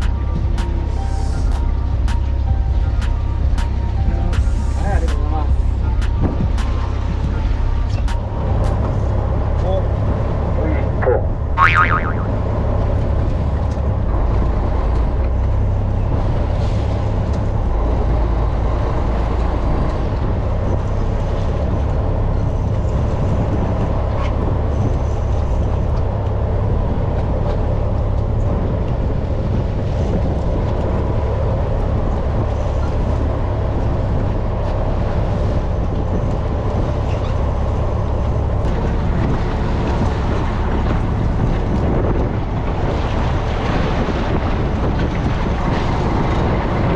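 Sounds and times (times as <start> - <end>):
boat engine drone: 0.0 - 46.9
water noise: 0.0 - 46.9
wind: 0.0 - 46.9.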